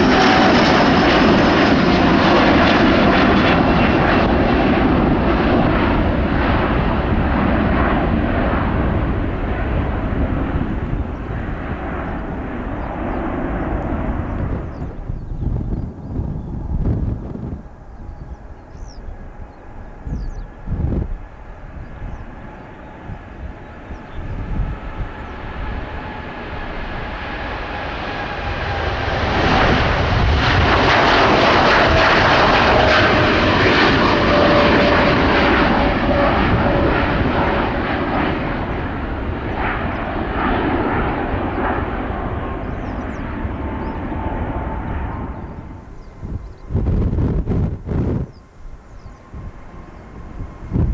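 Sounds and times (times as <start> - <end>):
jet airliner taking off: 0.0 - 50.9
jet engine whine: 0.0 - 50.9.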